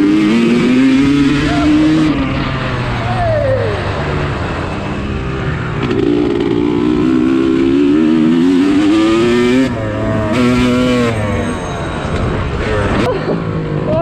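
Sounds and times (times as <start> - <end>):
dirt bike engine accelerating: 0.0 - 14.0.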